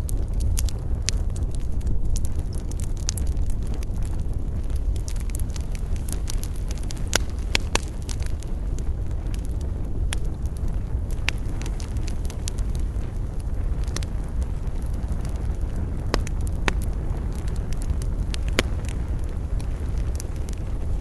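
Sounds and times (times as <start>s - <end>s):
campfire crackling and popping: 0.0s - 21.0s
low rumble: 0.0s - 21.0s.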